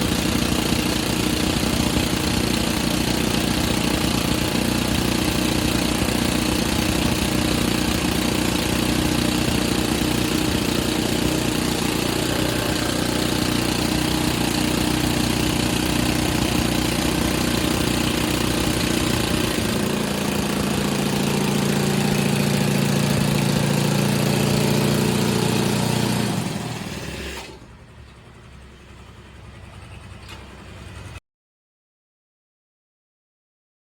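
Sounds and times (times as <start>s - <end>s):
drilling rig diesel engine: 0.0s - 31.2s.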